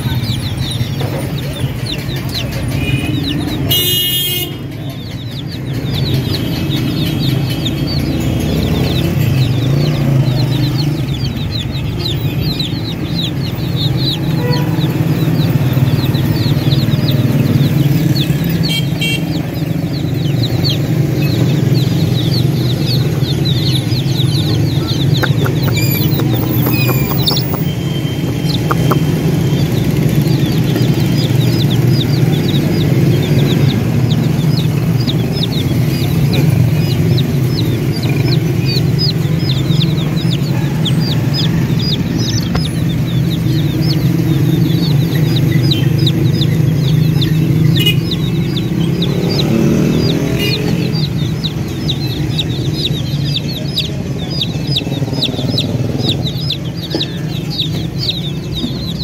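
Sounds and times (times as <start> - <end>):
baby chicks peeping: 0.0 - 59.0.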